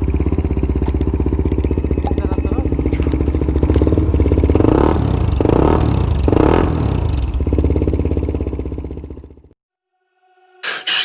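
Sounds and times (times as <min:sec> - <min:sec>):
motorcycle engine idling and revving: 0:00.0 - 0:09.6.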